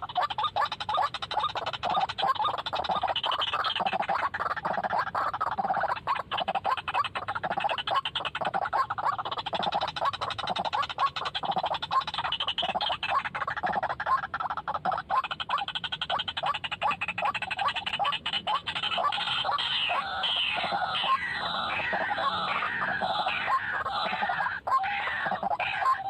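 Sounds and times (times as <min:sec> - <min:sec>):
bird croaking call: 0:00.0 - 0:26.0.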